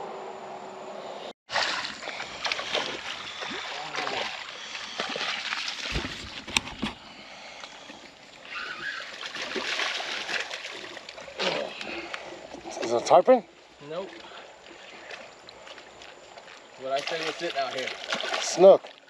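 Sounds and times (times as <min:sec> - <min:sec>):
water splashing against rocks: 0:01.5 - 0:07.0, 0:07.7 - 0:13.1, 0:13.9 - 0:19.0.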